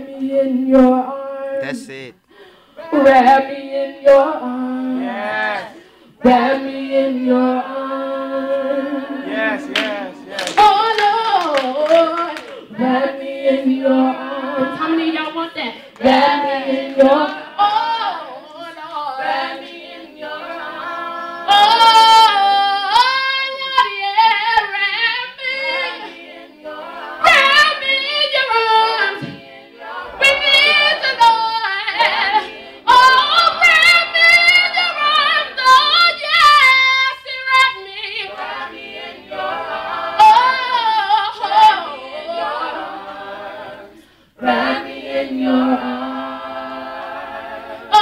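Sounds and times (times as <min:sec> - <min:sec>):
vocal group harmony: 0:00.0 - 0:48.0.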